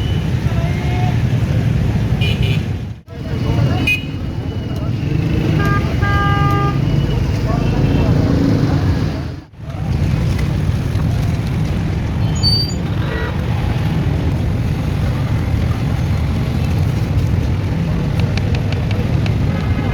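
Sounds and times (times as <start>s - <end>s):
street traffic rumble: 0.0s - 19.9s.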